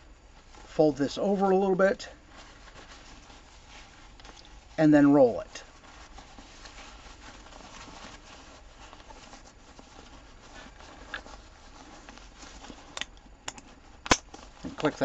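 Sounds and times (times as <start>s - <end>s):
fabric rustling and rubbing: 0.0s - 13.0s, 13.6s - 15.0s.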